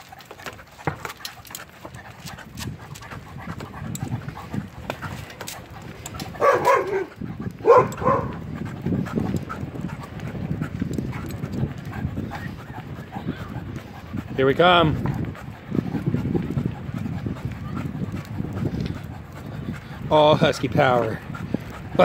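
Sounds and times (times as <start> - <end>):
dog panting: 0.0 - 22.0
tyres rumbling on concrete: 0.0 - 22.0.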